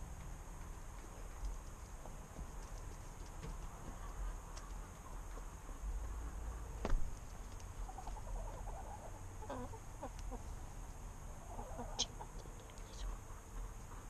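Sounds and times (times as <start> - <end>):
hens clucking softly: 0.6 - 14.0.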